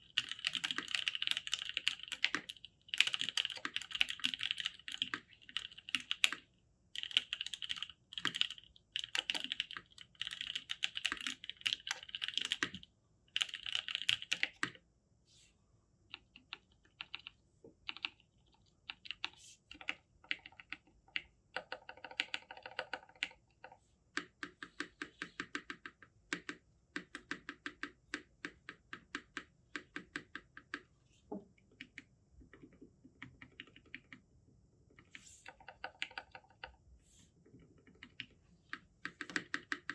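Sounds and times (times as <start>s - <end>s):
typing on mechanical keyboard: 0.0s - 14.8s, 16.1s - 30.9s, 31.7s - 34.2s, 35.0s - 36.8s, 37.6s - 39.9s.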